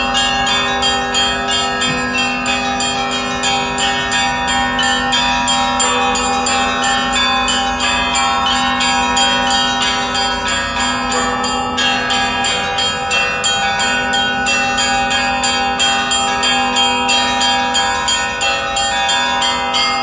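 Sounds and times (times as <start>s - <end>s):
church bells ringing in quick rhythm: 0.0s - 20.0s
deep bell humming: 0.0s - 20.0s.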